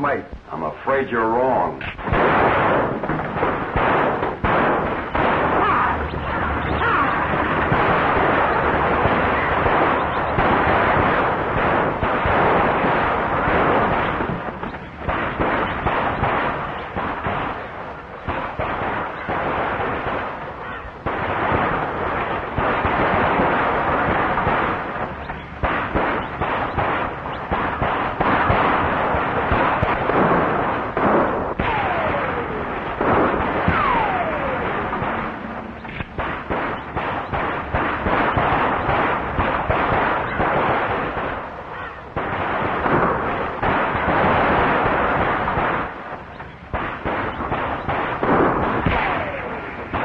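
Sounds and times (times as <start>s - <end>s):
gunshots: 0.0s - 50.0s
bullet ricochet whines: 1.9s - 50.0s.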